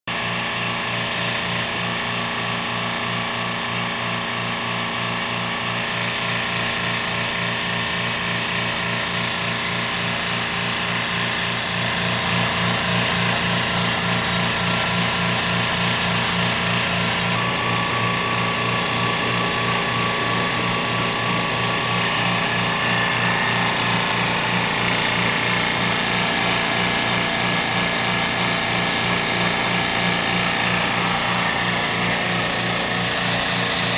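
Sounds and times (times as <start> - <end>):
small motor machine humming: 0.1 - 33.9.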